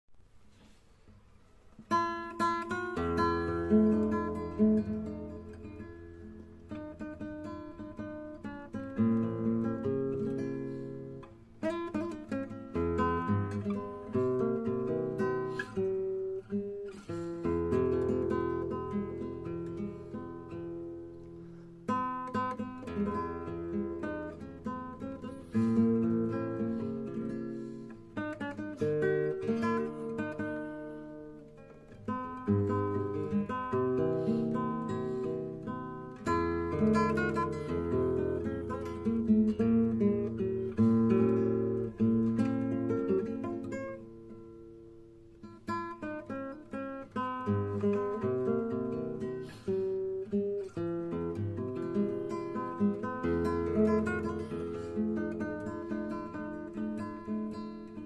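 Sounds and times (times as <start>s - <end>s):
acoustic guitar playing: 0.2s - 58.0s.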